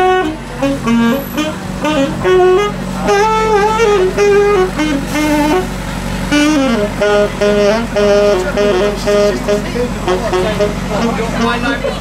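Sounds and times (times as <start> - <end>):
saxophone melody: 0.0 - 12.0
vehicle engine idling: 0.0 - 12.0.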